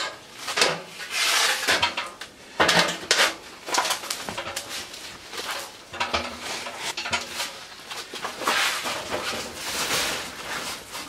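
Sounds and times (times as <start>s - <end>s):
metal scraping and rustling: 0.0s - 11.0s.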